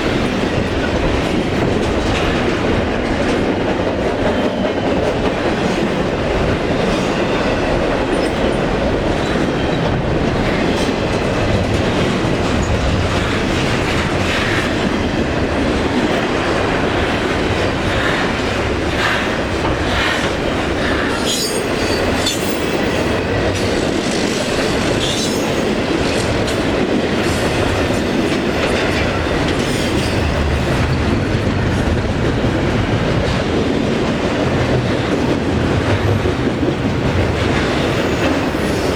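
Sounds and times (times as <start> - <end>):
train wheels clacking over rails: 0.0 - 38.9.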